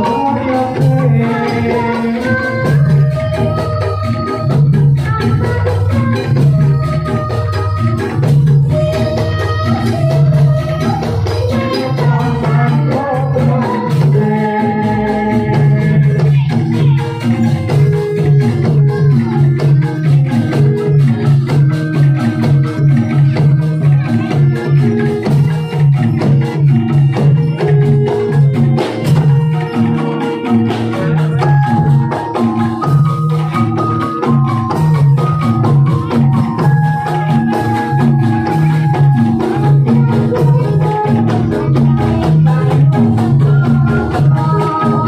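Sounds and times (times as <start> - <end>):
gamelan ensemble playing: 0.0 - 45.0.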